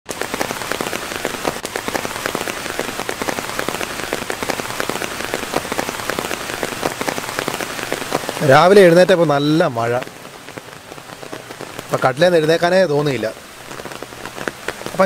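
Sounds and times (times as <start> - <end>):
heavy rain: 0.0 - 15.0
close raindrop hits: 0.1 - 15.0.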